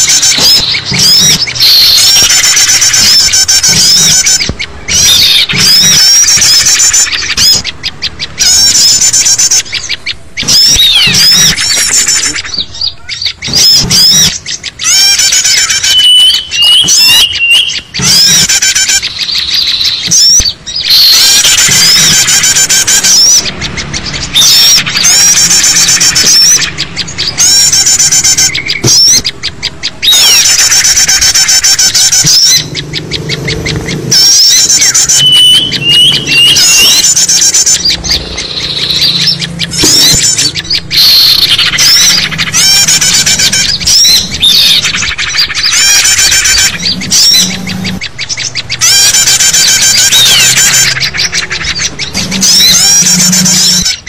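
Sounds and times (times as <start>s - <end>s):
many small birds calling: 0.0s - 54.0s.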